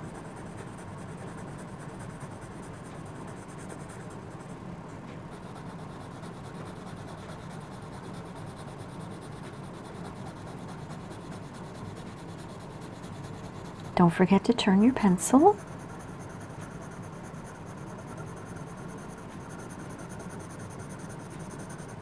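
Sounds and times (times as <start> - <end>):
pencil rubbing on paper: 0.0 - 4.5, 5.3 - 14.1, 15.0 - 22.0.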